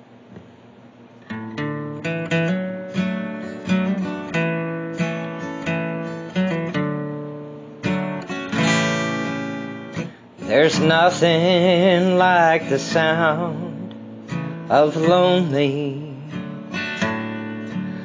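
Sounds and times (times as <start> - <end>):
acoustic guitar chords: 1.2 - 18.0.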